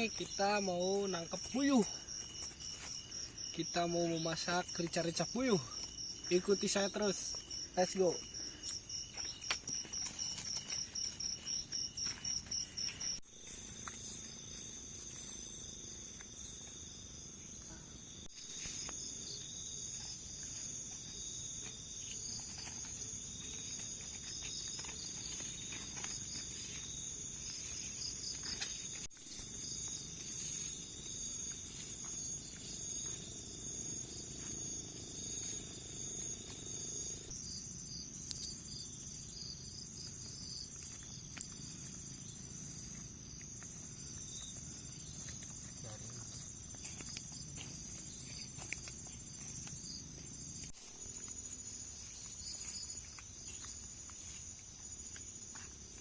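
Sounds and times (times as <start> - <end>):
fast pulsing insect chirp: 0.0 - 55.5
crickets trilling: 0.0 - 56.0.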